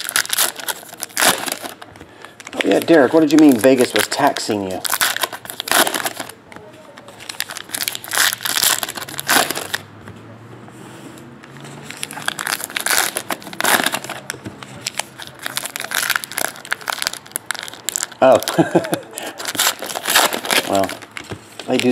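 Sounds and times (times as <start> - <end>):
foil wrappers crinkling: 0.0 - 9.8, 11.8 - 21.9.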